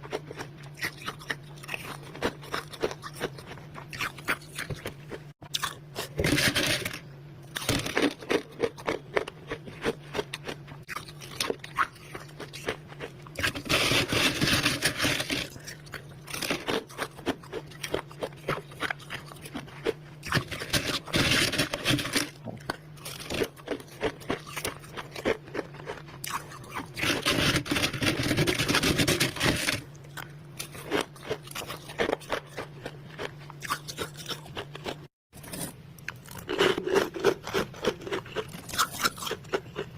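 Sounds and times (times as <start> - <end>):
frost being crunched and chewed: 7.6 - 39.9.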